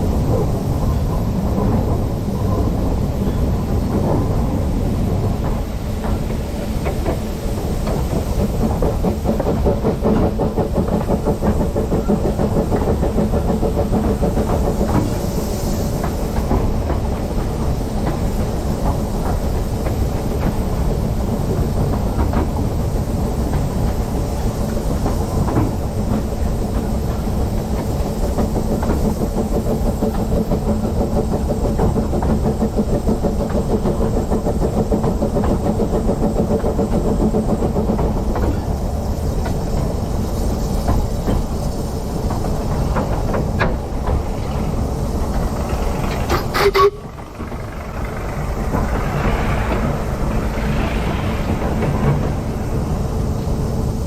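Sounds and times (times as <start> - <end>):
steam train rumbling: 0.0 - 54.0
wheel clatter on rails: 0.0 - 54.0.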